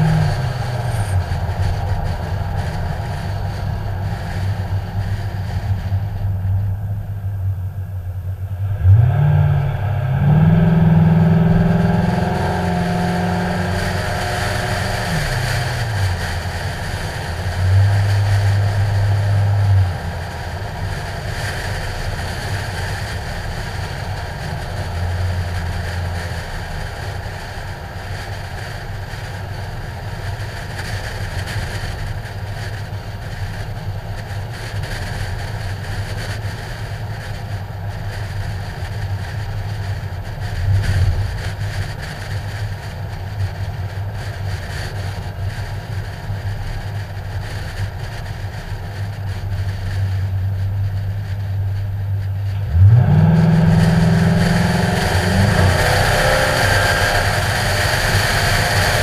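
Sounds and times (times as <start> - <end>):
car engine running: 0.0 - 59.0
wind noise on microphone: 0.0 - 59.0.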